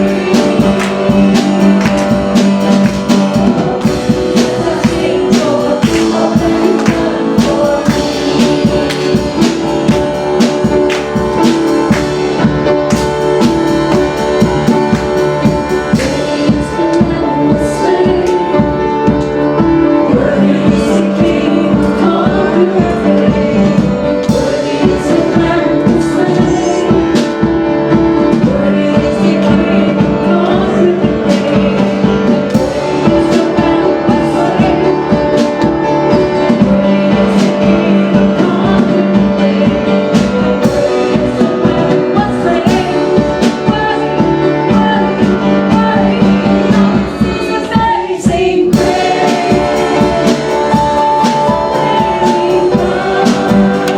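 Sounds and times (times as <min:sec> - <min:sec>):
held keyboard notes: 0:00.0 - 0:53.9
person singing: 0:00.0 - 0:53.9
steady drum beat: 0:00.0 - 0:53.9.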